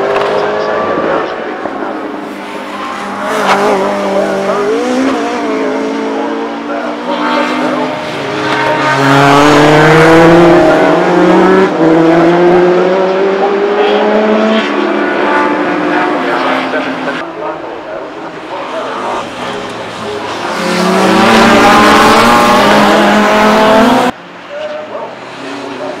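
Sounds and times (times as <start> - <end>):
racing cars passing: 0.0 - 26.0.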